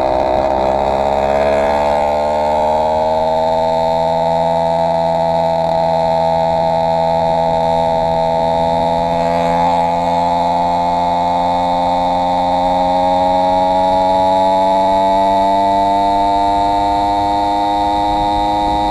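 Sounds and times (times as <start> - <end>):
two-stroke engine running: 0.0 - 18.9.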